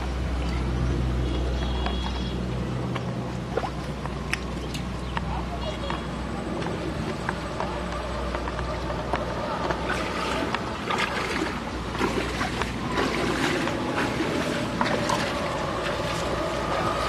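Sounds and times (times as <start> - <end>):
water sloshing from wading: 0.0 - 17.0.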